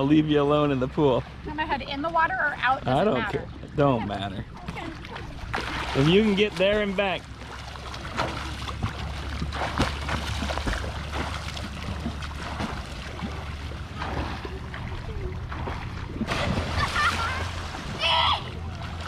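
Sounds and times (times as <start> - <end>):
swimmer splashing water: 0.0 - 19.0.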